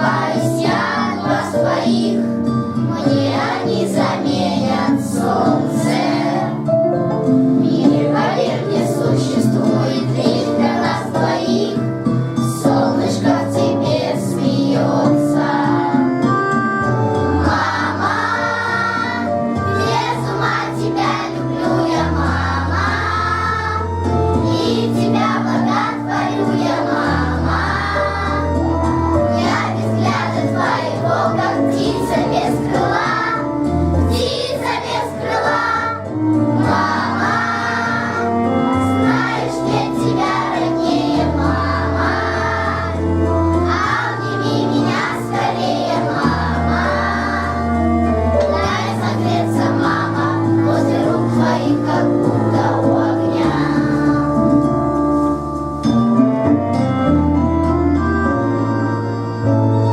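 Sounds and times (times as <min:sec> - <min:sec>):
children's choir singing: 0:00.0 - 0:06.8, 0:07.6 - 0:16.2, 0:16.9 - 0:54.7
instrumental accompaniment: 0:00.0 - 0:59.9.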